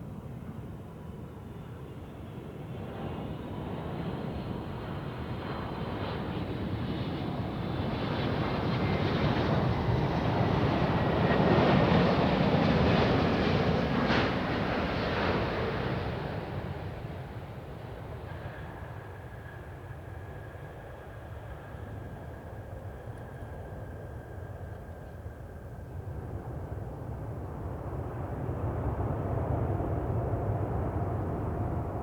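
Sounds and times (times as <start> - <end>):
jet airliner passing overhead: 0.0 - 32.0.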